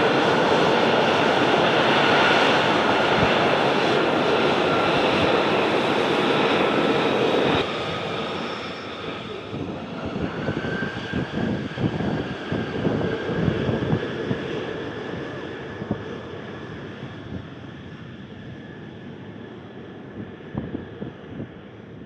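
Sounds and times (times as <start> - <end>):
jet engine roaring: 0.0 - 21.7.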